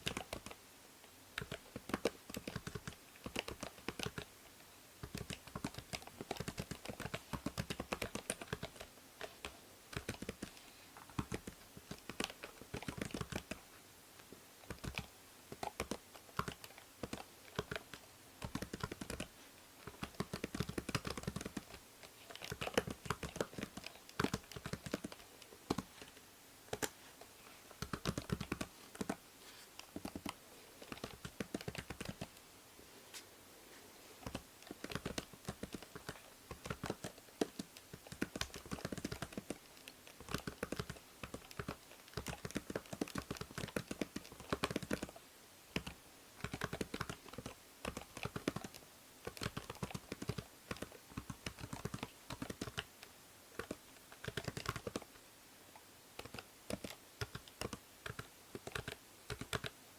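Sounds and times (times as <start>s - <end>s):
computer keyboard typing: 0.0s - 0.6s, 1.4s - 4.3s, 5.0s - 13.6s, 14.6s - 27.0s, 27.7s - 29.2s, 29.8s - 32.4s, 34.2s - 45.2s, 45.8s - 53.0s, 53.6s - 55.1s, 56.2s - 59.7s
faint microphone hiss: 0.0s - 59.9s.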